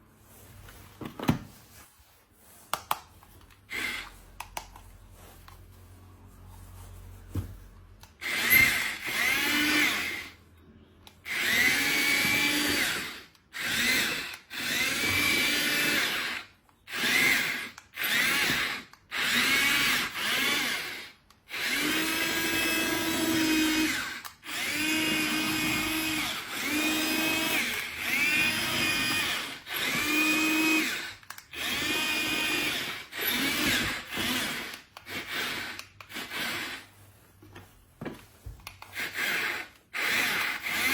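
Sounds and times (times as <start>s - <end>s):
toy motor whirring: 2.7s - 5.6s, 8.0s - 10.4s, 11.0s - 37.1s, 38.6s - 40.9s.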